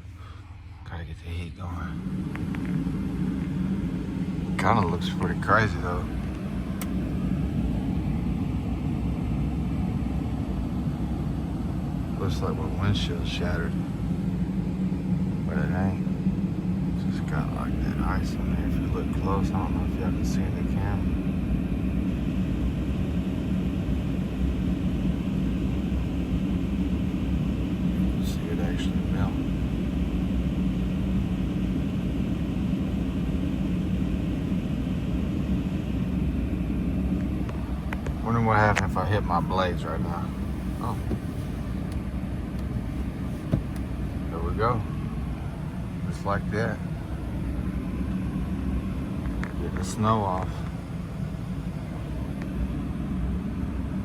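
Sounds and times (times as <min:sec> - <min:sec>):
car engine idling: 0:00.0 - 0:54.0
heater blowing: 0:00.0 - 0:54.0.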